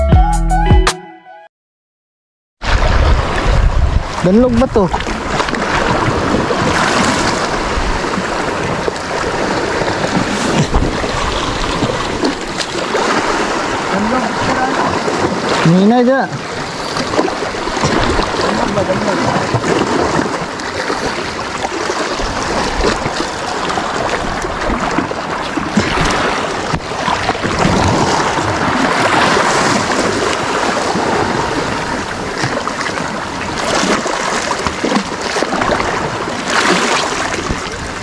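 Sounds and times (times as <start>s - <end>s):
wind on microphone: 2.6s - 15.7s, 16.3s - 38.0s
waves splashing against rocks: 2.6s - 38.0s.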